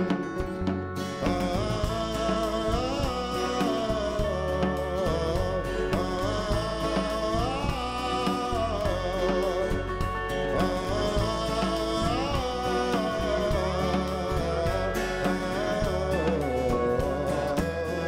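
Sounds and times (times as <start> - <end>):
acoustic guitar strumming: 0.0 - 18.0
country band with drums: 0.0 - 18.0
man singing: 0.0 - 18.0.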